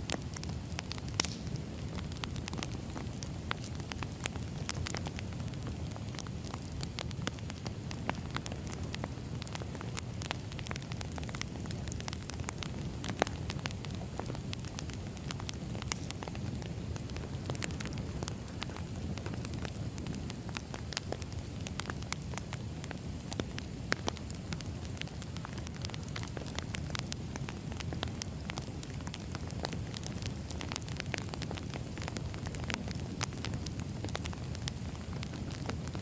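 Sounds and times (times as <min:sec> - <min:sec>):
firewood crackling: 0:00.0 - 0:36.0
low rush of flames: 0:00.0 - 0:36.0.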